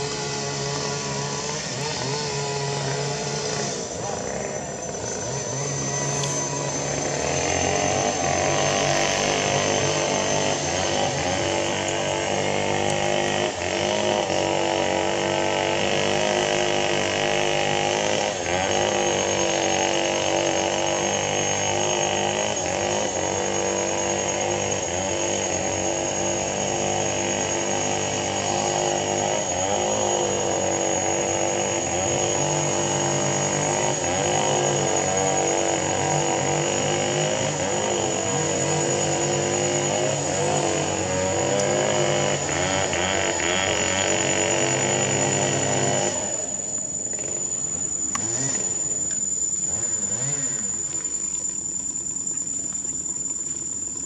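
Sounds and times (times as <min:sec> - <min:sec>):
motor engine droning: 0:00.0 - 0:54.0
thin high whine: 0:00.0 - 0:54.0.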